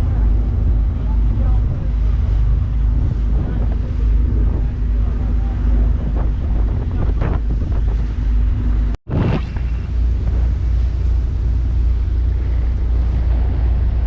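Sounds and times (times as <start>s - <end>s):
boat engine hum: 0.0s - 14.0s
wind buffeting microphone: 0.0s - 14.0s.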